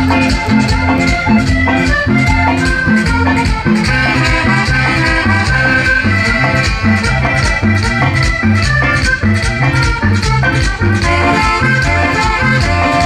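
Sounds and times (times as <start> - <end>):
latin dance band music: 0.0 - 13.0
shaker beat: 0.0 - 13.0.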